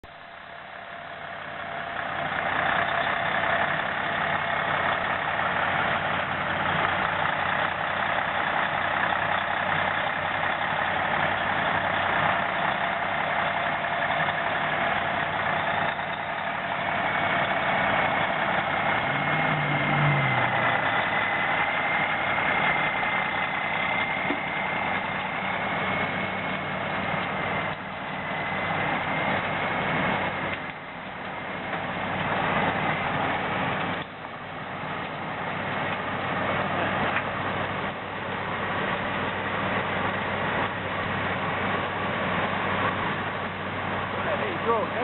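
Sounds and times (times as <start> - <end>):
heavy diesel machinery running: 0.0 - 45.0
steady whine: 0.0 - 45.0.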